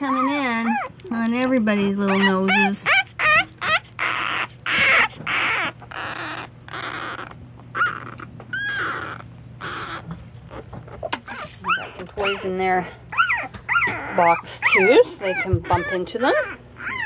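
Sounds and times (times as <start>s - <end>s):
puppies high squeaks: 0.0s - 17.0s
puppies raspy cries: 0.0s - 17.0s.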